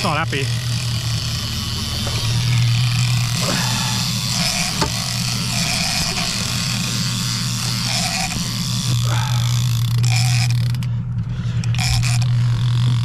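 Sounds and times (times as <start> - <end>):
fishing reel drag buzzing: 0.0 - 13.0
low hum: 0.0 - 13.0.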